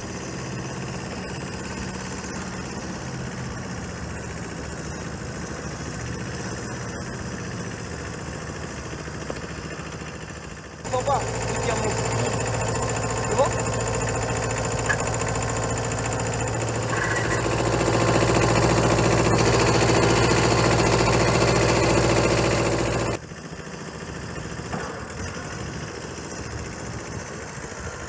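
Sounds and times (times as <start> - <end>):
tractor engine running: 0.1 - 28.0.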